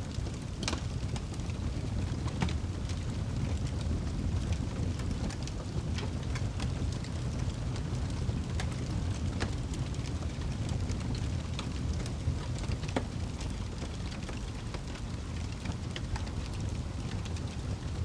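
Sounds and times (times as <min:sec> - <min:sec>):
fire roaring: 0:00.0 - 0:18.0
wood crackling and popping: 0:00.0 - 0:18.0.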